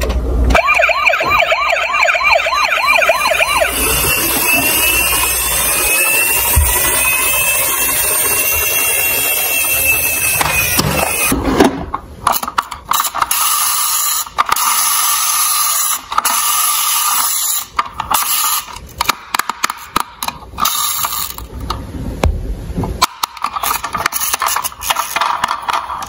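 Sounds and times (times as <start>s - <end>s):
toy mechanical whirring: 2.2s - 11.4s, 12.3s - 21.6s, 23.0s - 26.0s
plastic toys clicking and rattling: 3.1s - 11.4s, 12.2s - 21.8s, 23.0s - 26.0s.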